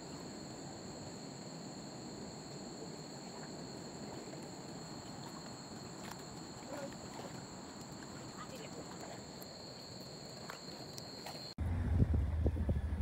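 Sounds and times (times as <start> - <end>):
night insects trilling: 0.0 - 11.6.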